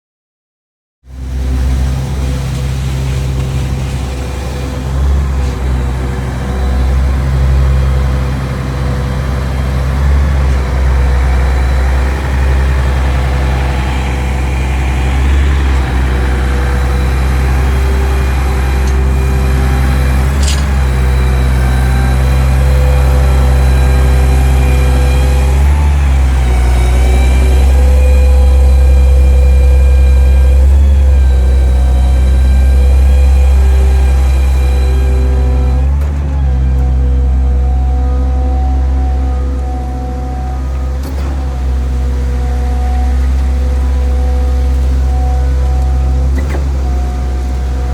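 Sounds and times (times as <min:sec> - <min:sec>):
diesel engine low drone: 0:01.0 - 0:47.9.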